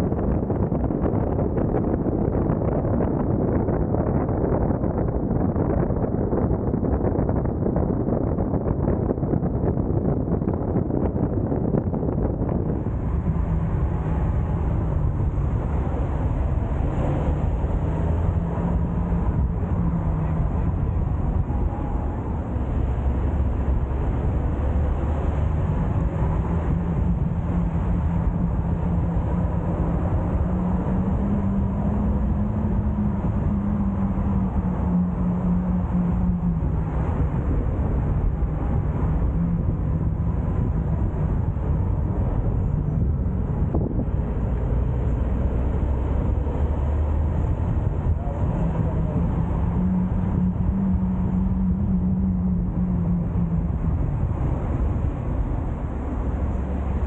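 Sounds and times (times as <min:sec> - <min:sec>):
car engine hum: 0:00.0 - 0:57.0
tyre and wind noise: 0:00.0 - 0:57.0.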